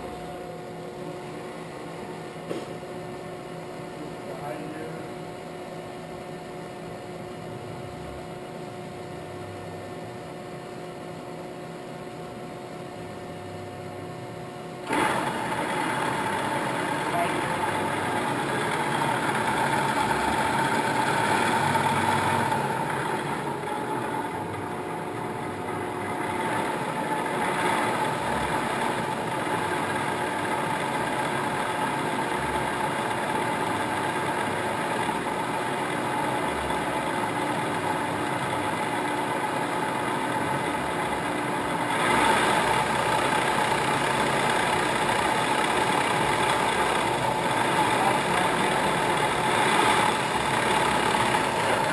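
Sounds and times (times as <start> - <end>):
machining center spindle humming: 0.0 - 51.9.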